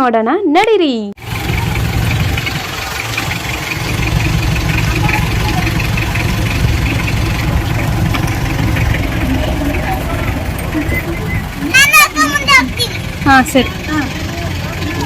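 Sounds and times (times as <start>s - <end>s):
vehicle engine rumbling: 1.2s - 15.0s.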